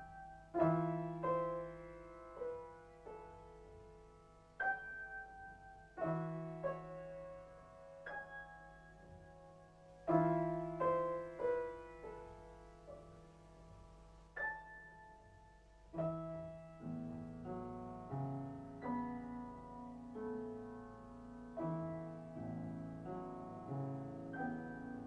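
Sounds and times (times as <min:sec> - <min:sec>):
slow solo piano: 0:00.0 - 0:25.0.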